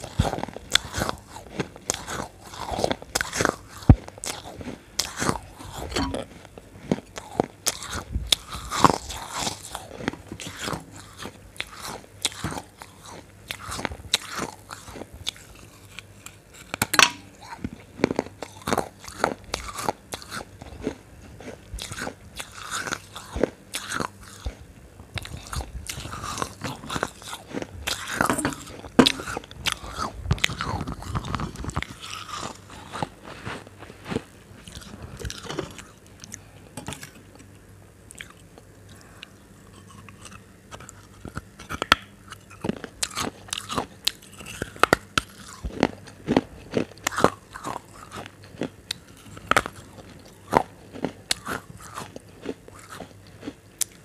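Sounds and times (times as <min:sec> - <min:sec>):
person crunching crisp food: 0:00.0 - 0:37.5, 0:38.1 - 0:54.0.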